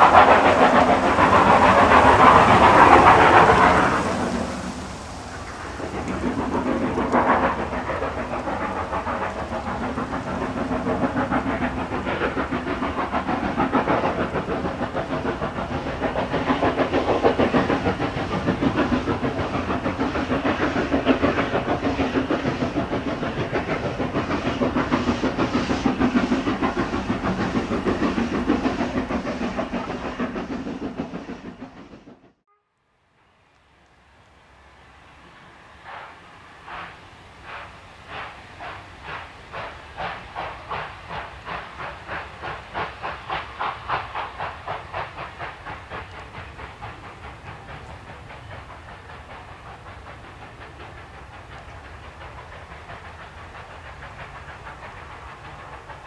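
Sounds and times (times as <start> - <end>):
rush of steam: 0.0 - 32.4, 33.2 - 56.0
steam locomotive chuffing: 0.0 - 32.4, 34.5 - 56.0.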